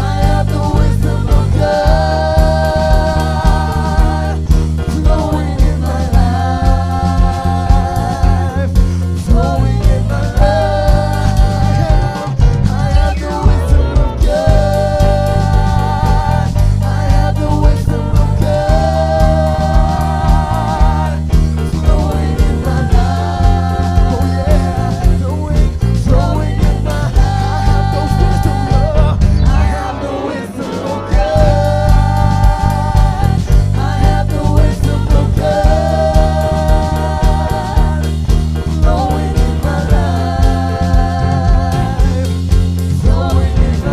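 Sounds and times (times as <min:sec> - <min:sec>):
bass line and steady beat: 0:00.0 - 0:43.9
person singing worship song: 0:00.0 - 0:43.9.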